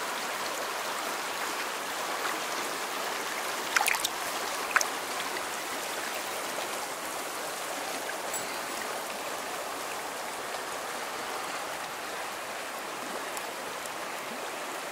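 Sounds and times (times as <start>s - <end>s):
river rushing over stones: 0.1s - 14.9s.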